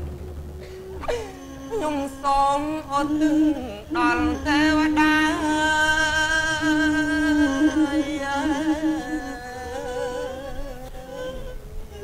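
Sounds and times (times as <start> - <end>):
man singing lament: 1.4 - 11.3.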